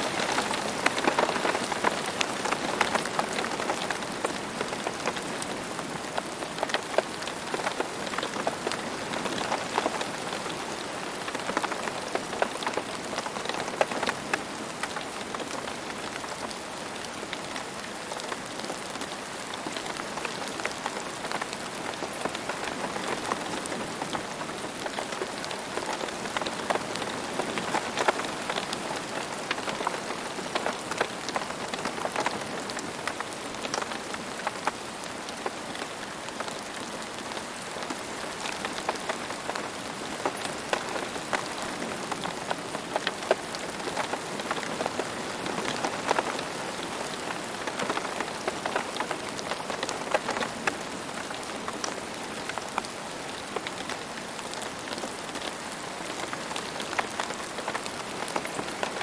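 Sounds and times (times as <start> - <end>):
raindrops ticking on hard surface: 0.0 - 59.0.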